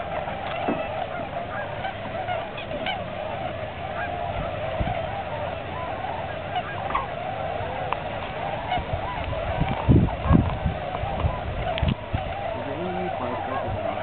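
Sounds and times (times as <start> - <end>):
flock of swans calling: 0.0 - 14.0.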